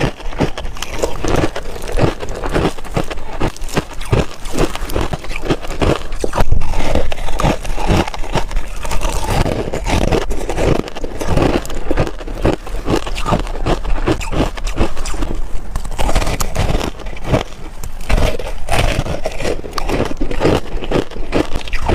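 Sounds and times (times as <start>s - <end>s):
crushed ice being chewed: 0.0s - 21.9s.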